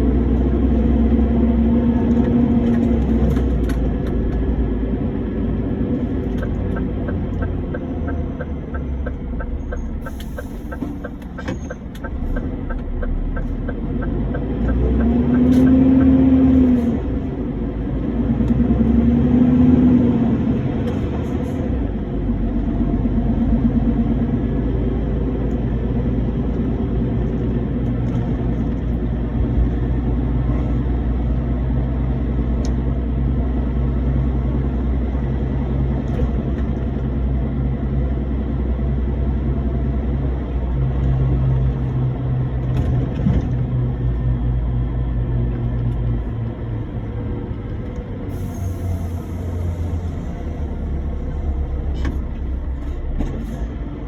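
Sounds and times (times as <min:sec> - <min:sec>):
road rumble: 0:00.0 - 0:54.0
truck diesel engine running: 0:00.0 - 0:54.0.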